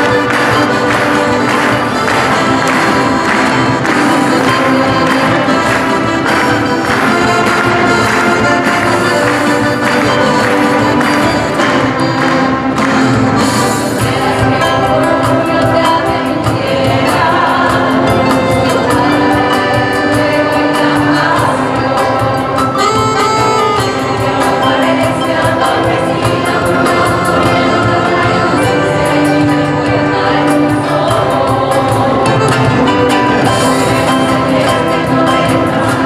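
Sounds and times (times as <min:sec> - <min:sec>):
choir singing: 0:00.0 - 0:36.0
quick steady beat: 0:00.0 - 0:36.0
string orchestra of violins: 0:00.0 - 0:36.0.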